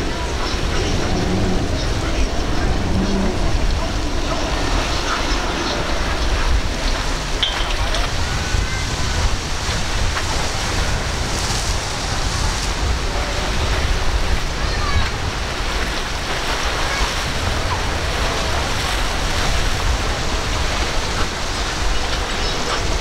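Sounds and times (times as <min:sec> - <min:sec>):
sea surf breaking: 0:00.0 - 0:23.0
wind buffeting microphone: 0:00.0 - 0:23.0.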